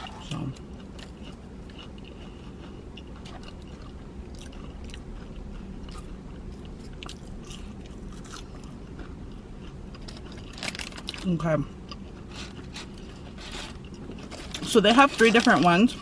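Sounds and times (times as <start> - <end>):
person chewing food: 0.0 - 14.7.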